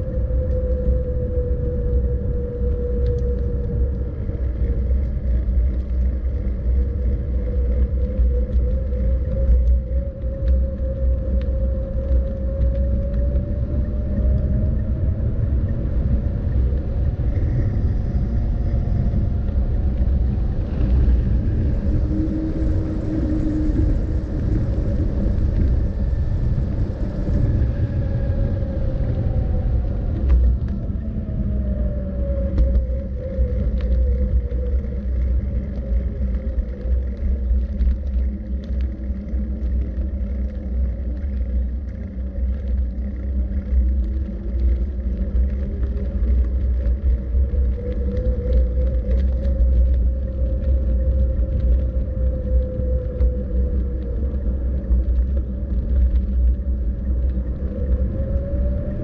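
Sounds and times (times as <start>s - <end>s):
faint gliding whine: 0.0s - 59.0s
rolling road noise: 0.0s - 59.0s
wind buffeting microphone: 0.0s - 59.0s.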